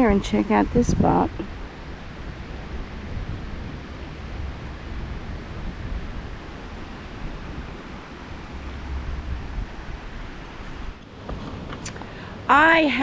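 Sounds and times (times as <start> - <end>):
creek flowing: 0.0 - 12.5
wind buffeting microphone: 0.0 - 12.8.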